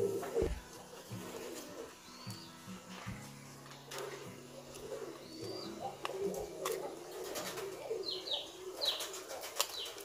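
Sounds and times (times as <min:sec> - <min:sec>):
pigeons cooing: 0:00.0 - 0:02.4, 0:03.9 - 0:10.0.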